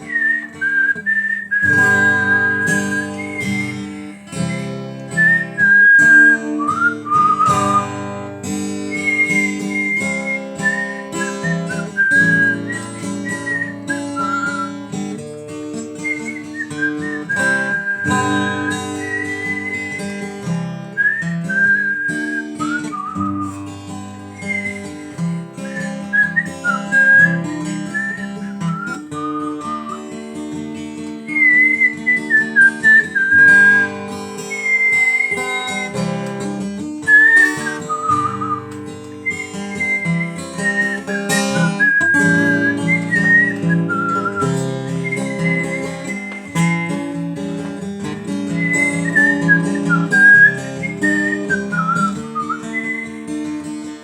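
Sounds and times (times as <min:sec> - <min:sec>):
person whistling melody: 0:00.0 - 0:30.4, 0:31.0 - 0:53.9
acoustic guitar chords: 0:00.0 - 0:54.0.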